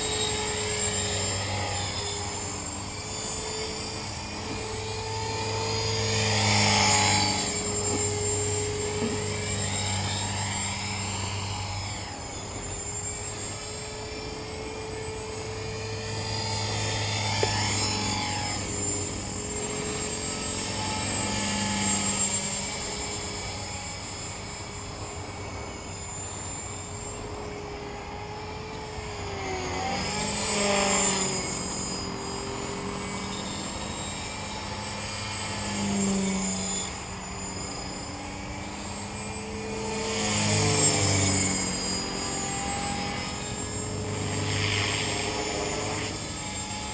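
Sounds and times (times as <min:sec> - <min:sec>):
bearing squeal: 0:00.0 - 0:27.6, 0:28.4 - 0:46.9
rc helicopter motor whine: 0:00.0 - 0:46.9.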